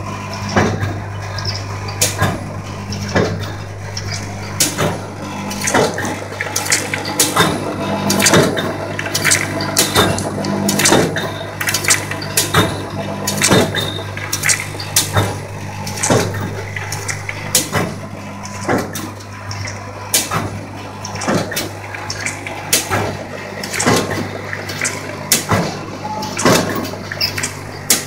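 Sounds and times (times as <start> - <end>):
machine clacks: 0.0 - 28.0
machine low hum: 0.0 - 28.0.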